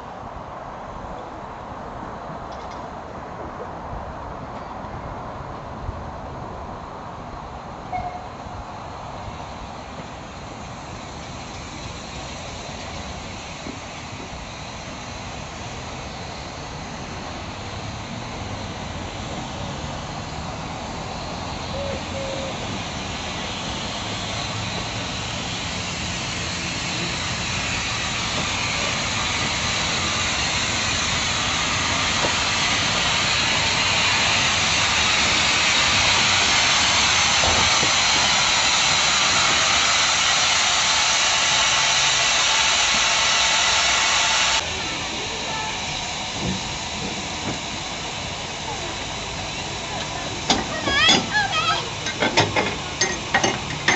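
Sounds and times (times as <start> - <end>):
miniature train hissing: 7.5 - 53.9.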